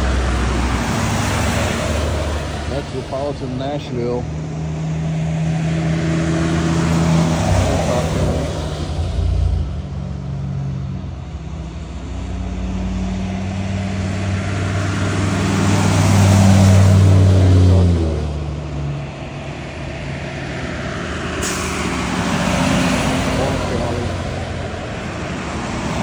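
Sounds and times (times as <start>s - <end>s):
bus driving past: 0.0s - 26.0s.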